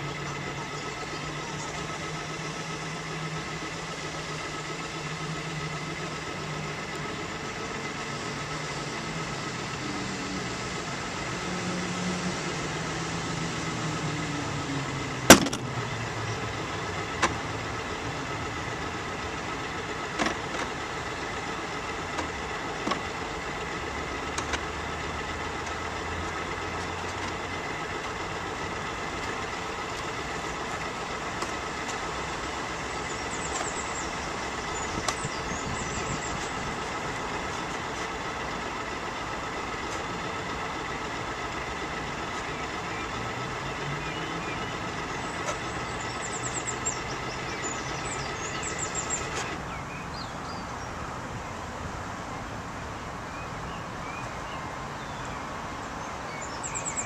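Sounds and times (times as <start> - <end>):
electric motor hum and whine: 0.0 - 50.2.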